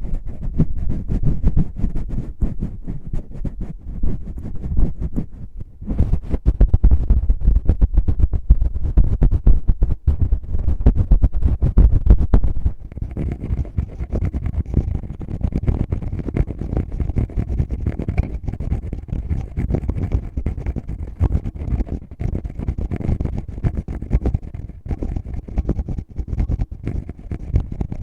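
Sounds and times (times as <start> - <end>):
fingers rubbing on microphone: 0.0 - 28.0.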